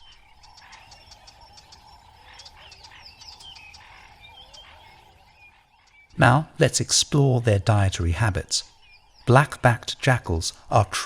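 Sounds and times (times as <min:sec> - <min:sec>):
small birds chirping and twittering: 0:00.0 - 0:11.0.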